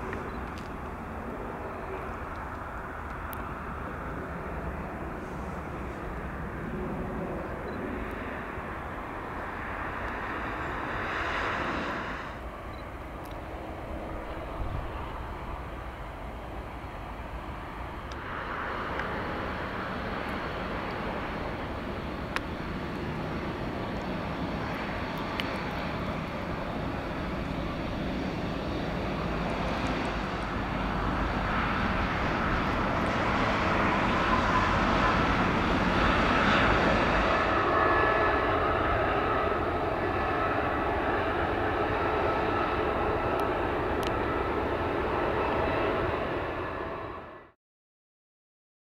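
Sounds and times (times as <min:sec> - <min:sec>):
jet engines running: 0:00.0 - 0:47.6.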